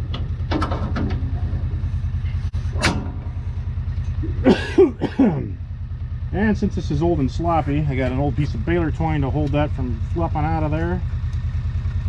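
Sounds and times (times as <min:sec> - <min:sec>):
combine engine running: 0:00.0 - 0:12.0.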